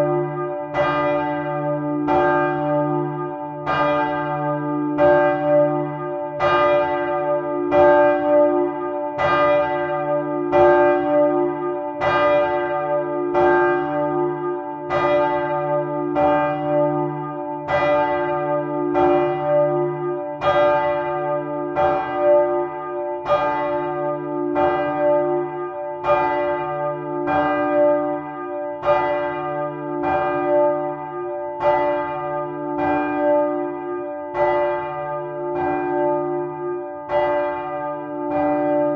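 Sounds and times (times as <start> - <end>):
church bell ringing: 0.0 - 38.9.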